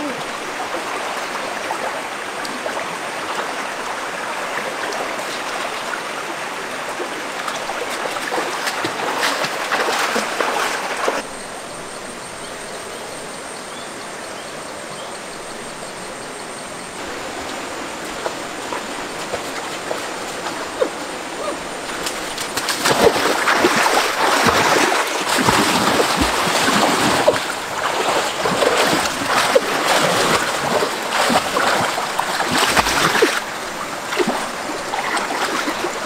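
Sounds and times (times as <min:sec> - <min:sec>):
stream flowing over rocks: 0:00.0 - 0:11.3, 0:16.4 - 0:36.0
water splashes: 0:00.0 - 0:11.3, 0:17.0 - 0:36.0.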